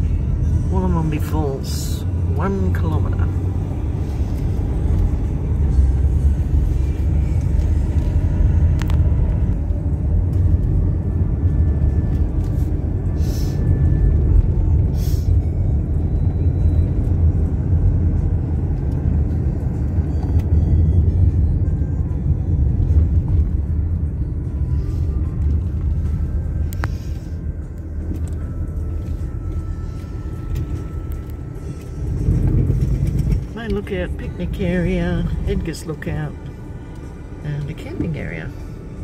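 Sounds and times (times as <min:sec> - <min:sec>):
tyre and engine rumble: 0:00.0 - 0:39.0.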